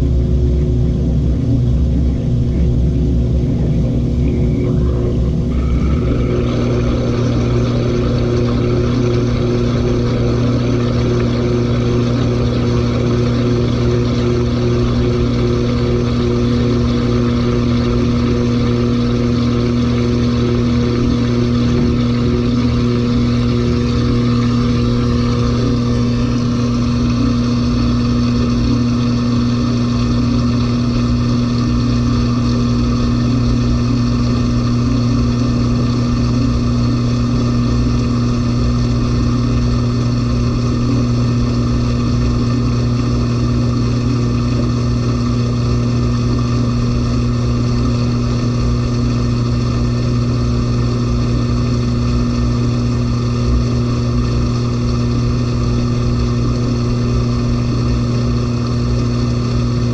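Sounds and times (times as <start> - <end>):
faint high whine: 0.0 - 59.9
washing machine drum spinning: 0.0 - 59.9.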